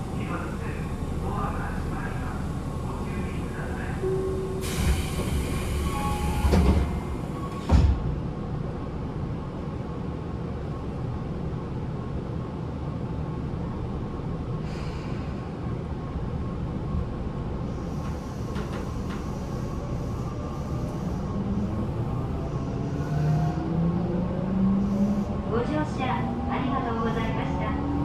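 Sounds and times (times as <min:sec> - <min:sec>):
train wheel-on-rail rumble: 0:00.0 - 0:28.0.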